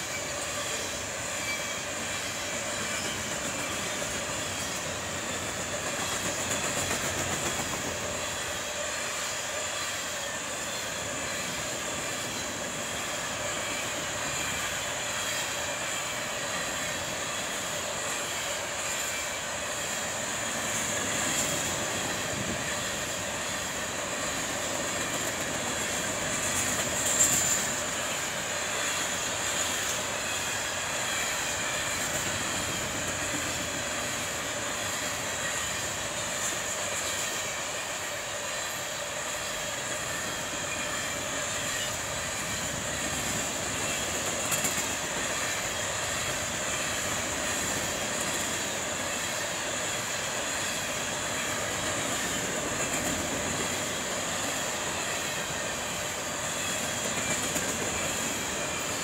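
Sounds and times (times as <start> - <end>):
freight train rolling: 0.0 - 59.0.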